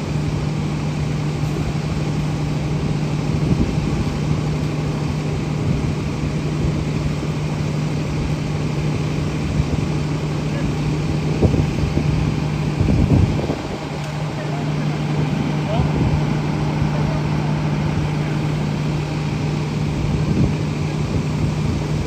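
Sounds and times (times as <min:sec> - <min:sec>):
fire engine running: 0:00.0 - 0:22.0.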